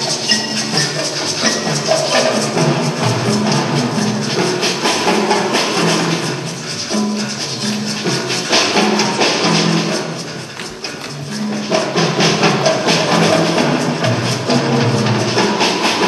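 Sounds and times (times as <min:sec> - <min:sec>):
fast rattling percussion: 0:00.0 - 0:16.0.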